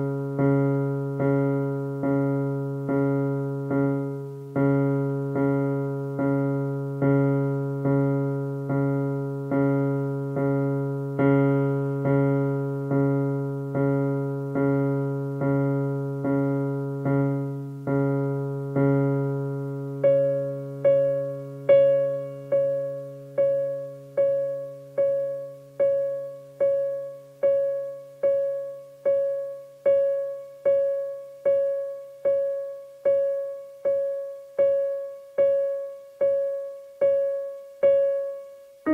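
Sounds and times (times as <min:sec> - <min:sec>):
repeated digital piano notes: 0:00.0 - 0:38.9.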